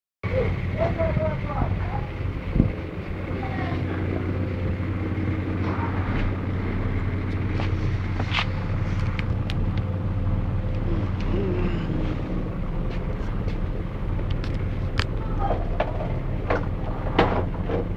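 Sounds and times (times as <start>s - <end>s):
moped engine idling: 0.3s - 17.9s.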